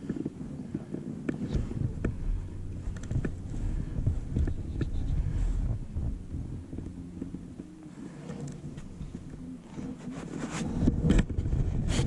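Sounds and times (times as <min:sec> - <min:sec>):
knocks and rubbing in plastic kayak: 0:00.0 - 0:12.0
wind rumble on microphone: 0:00.0 - 0:12.0.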